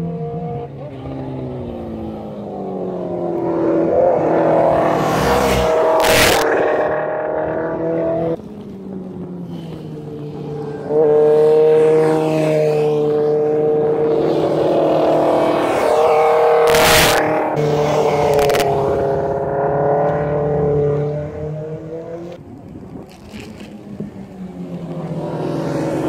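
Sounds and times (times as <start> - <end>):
motorcycle passing close: 0.0 - 22.4, 23.0 - 26.0
motorcycle engines running hard: 0.0 - 26.0.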